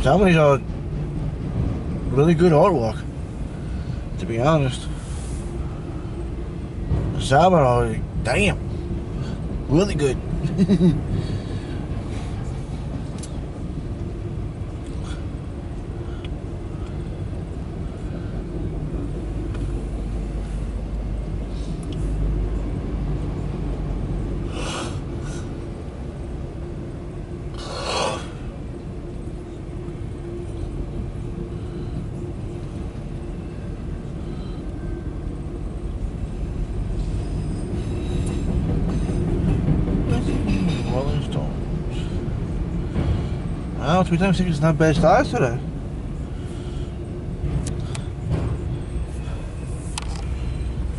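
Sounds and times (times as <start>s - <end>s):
freight cars rumbling past: 0.0s - 50.9s.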